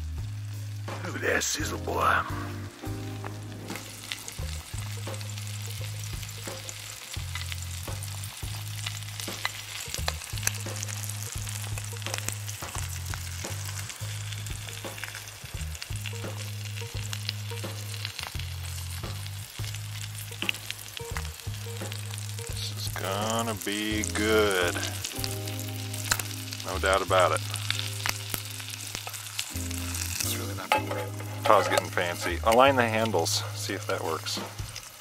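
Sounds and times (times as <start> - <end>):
background music: 0.0 - 35.0
fish sizzling in a pan: 0.0 - 35.0.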